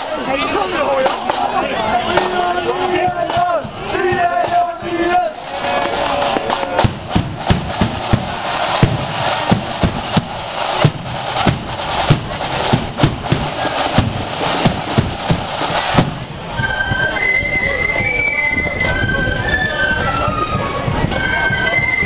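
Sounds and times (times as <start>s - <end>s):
drums beating march beat: 0.0s - 22.0s
marching band playing: 0.0s - 22.0s.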